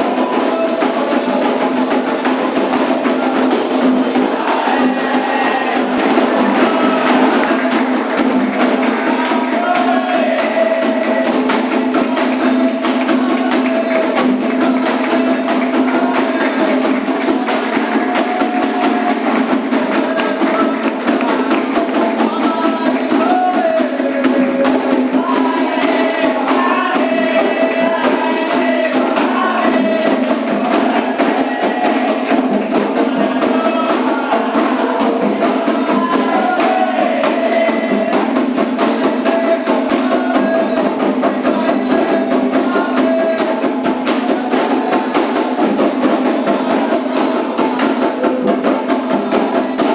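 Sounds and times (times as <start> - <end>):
group singing: 0.0 - 49.9
hand drums: 0.0 - 49.9.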